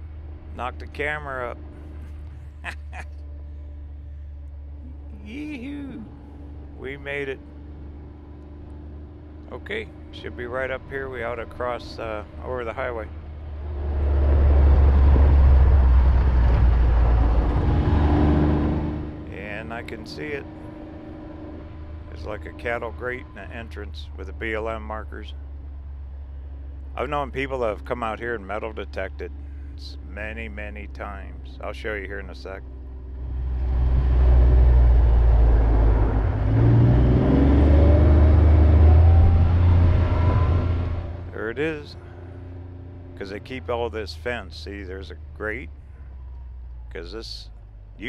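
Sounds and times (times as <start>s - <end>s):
vehicle engine rumble: 0.0s - 48.0s.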